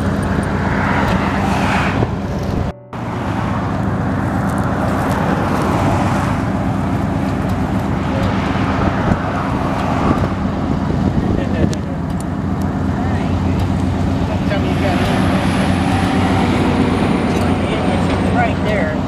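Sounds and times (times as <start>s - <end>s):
cars passing: 0.0s - 19.0s
low engine hum: 0.0s - 19.0s.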